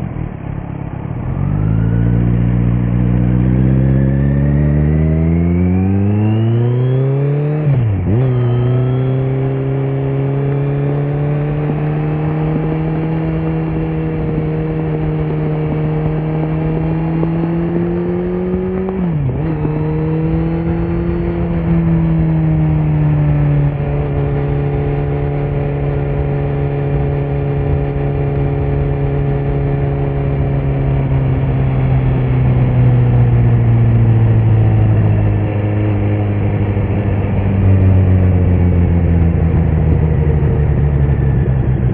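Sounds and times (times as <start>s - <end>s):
motorcycle engine riding: 0.0s - 41.9s.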